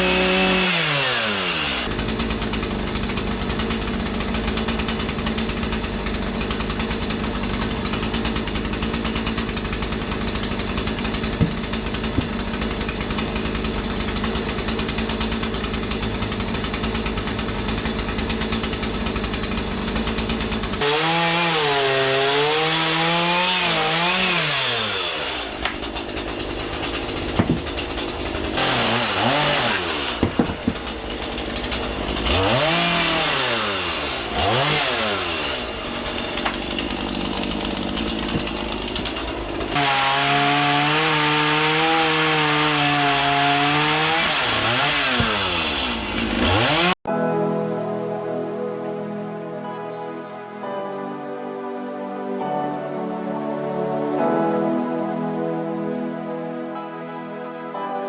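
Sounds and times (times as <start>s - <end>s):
chainsaw carving wood: 0.0s - 47.2s.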